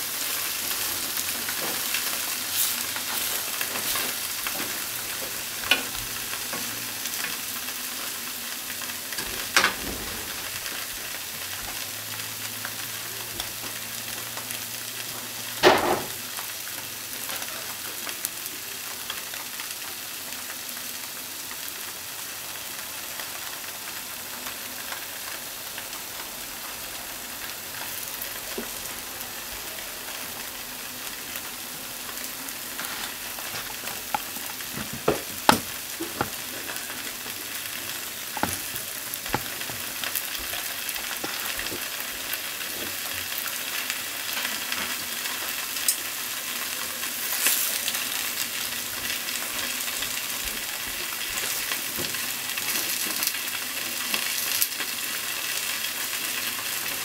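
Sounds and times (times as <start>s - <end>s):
tofu sizzling in a frying pan: 0.0s - 57.0s.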